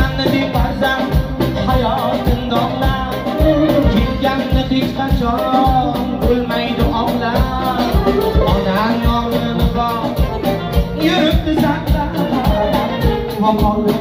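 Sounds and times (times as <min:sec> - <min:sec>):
keyboard melody: 0:00.0 - 0:14.0
steady drum beat: 0:00.0 - 0:14.0.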